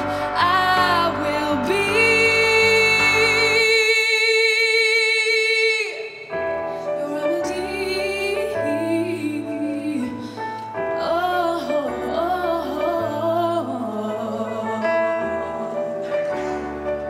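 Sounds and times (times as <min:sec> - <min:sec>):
young woman singing with vibrato: 0:00.0 - 0:16.5.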